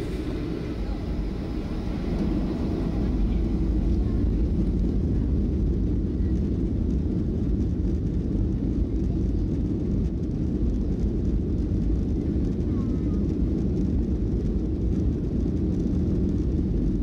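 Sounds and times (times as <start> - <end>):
jet rumble inside cabin: 0.0 - 17.0.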